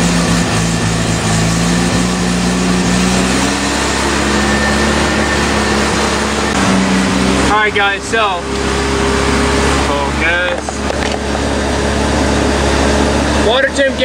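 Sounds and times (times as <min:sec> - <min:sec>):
rotary engine idling: 0:00.0 - 0:14.0.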